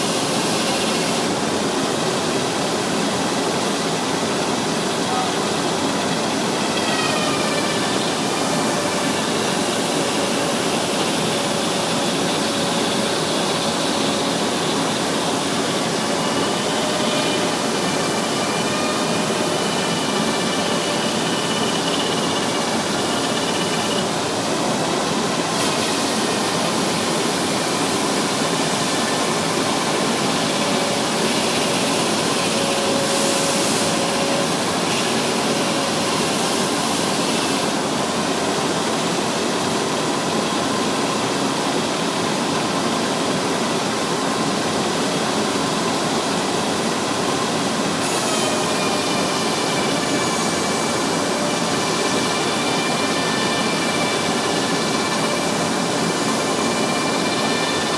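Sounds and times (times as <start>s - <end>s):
sanding machine running: 0.0s - 57.9s.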